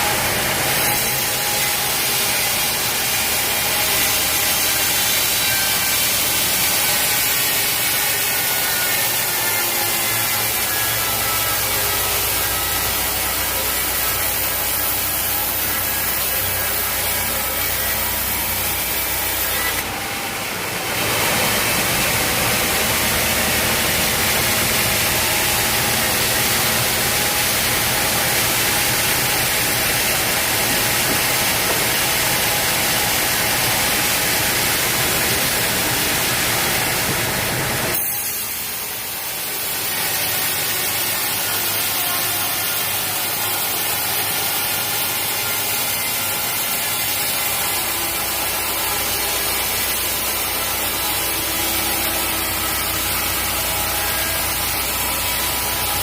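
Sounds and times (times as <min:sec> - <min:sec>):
saw cutting wood: 0:00.0 - 0:56.0
sawmill machine running: 0:00.0 - 0:56.0.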